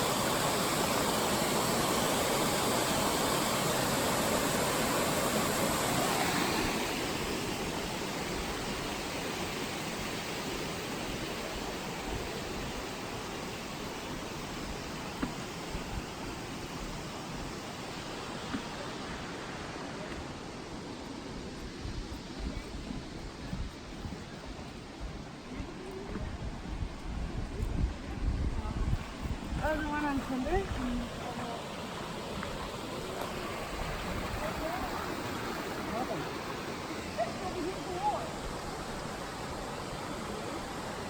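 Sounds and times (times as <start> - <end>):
waterfall rushing: 0.0 - 22.0, 28.9 - 41.0.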